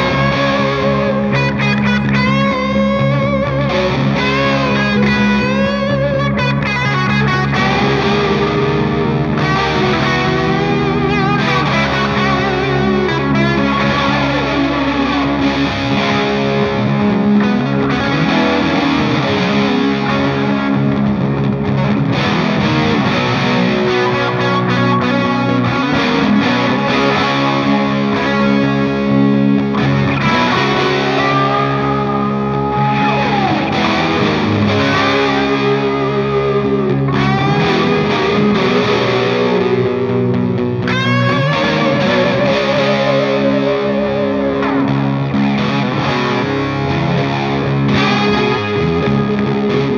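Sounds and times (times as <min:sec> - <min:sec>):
distorted electric guitar riffs: 0:00.0 - 0:49.9.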